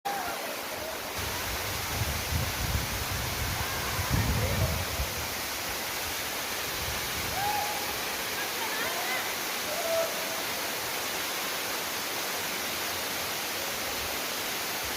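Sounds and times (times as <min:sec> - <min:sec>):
waterfall rushing: 0:00.1 - 0:14.9.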